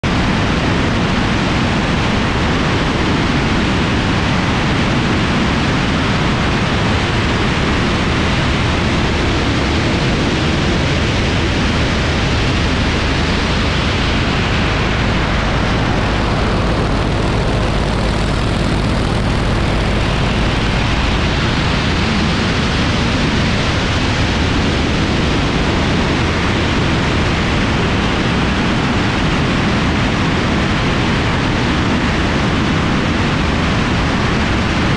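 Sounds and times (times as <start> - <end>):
aircraft radial engine running: 0.0 - 34.9
wind rushing: 1.5 - 32.4.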